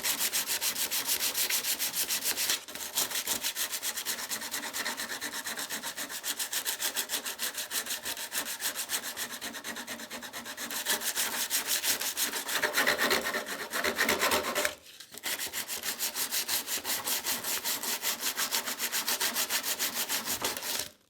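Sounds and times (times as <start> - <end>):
metal sheet sanded by hand: 0.0 - 20.9.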